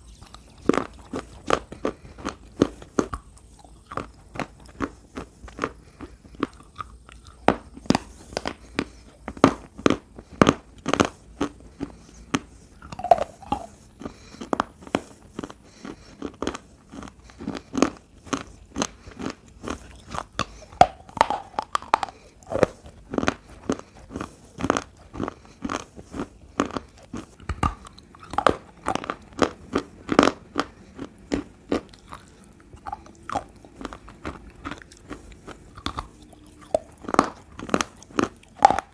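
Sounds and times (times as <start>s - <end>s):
crunchy chewing of clay: 0.0s - 38.9s.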